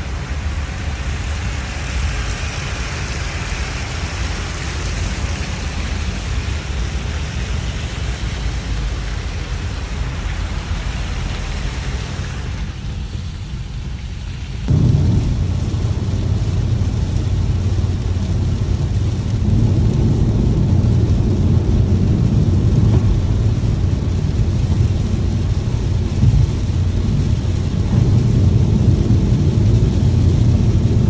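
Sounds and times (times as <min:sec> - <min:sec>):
rain hiss: 0:00.0 - 0:31.0
road and tyre rumble: 0:00.0 - 0:31.0.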